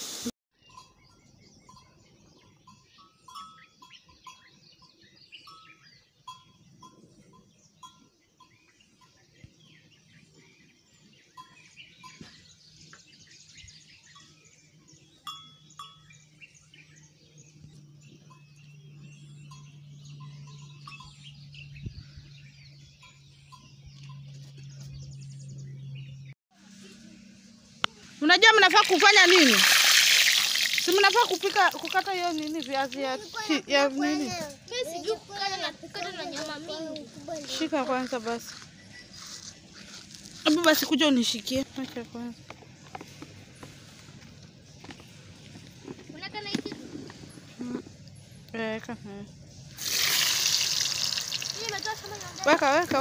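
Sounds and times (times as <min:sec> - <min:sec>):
small birds chirping: 0:00.6 - 0:53.0.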